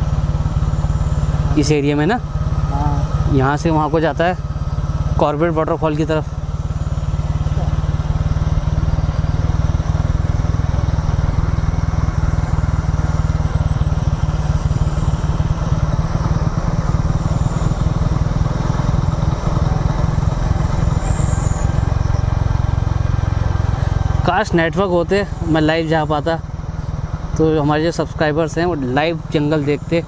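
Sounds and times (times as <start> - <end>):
motorcycle engine droning: 0.0 - 30.0.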